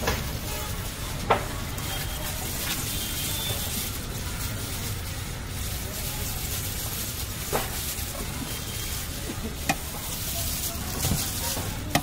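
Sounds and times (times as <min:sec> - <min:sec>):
faint voices: 0:00.0 - 0:12.0
street stall background hiss: 0:00.0 - 0:12.0
hand mixing food in steel plate: 0:00.1 - 0:12.0.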